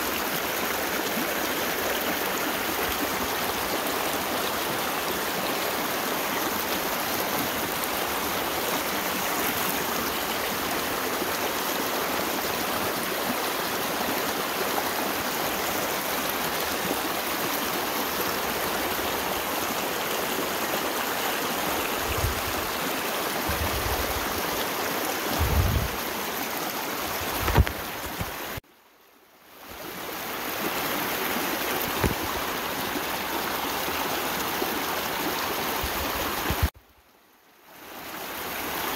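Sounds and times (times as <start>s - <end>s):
creek running over rocks: 0.0s - 36.8s, 37.4s - 38.9s.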